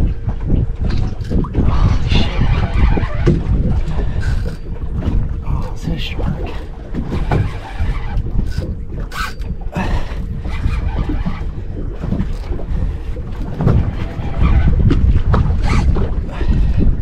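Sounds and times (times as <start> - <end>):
choppy water around boat: 0.0 - 17.0
wind buffeting microphone: 0.0 - 17.0.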